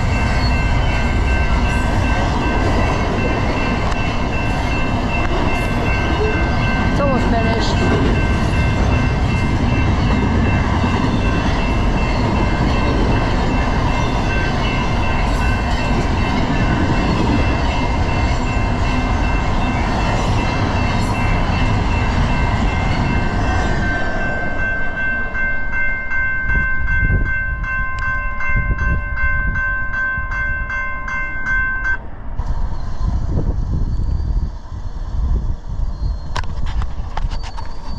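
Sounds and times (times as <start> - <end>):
high ringing tones: 0.0 - 32.1
train rumbling past: 0.0 - 37.9.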